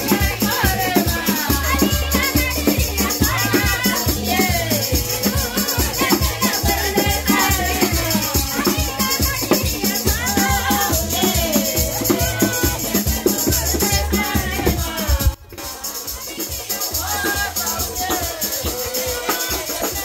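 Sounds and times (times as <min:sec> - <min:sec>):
music with singing: 0:00.0 - 0:20.0
tambourine: 0:00.0 - 0:20.0.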